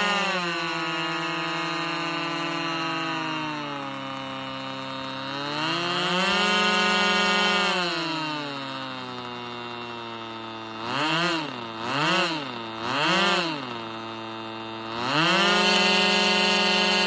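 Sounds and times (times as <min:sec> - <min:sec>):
model plane engine revving: 0:00.0 - 0:17.0.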